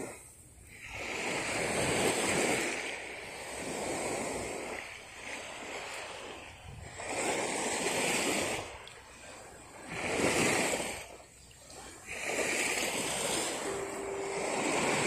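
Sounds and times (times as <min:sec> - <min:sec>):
small waves washing: 0:00.0 - 0:15.0.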